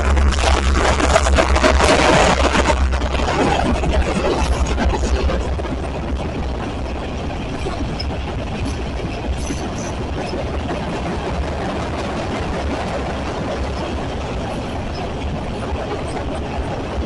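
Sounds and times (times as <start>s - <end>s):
rail noise: 0.0s - 17.0s
train rumbling past: 0.0s - 17.0s.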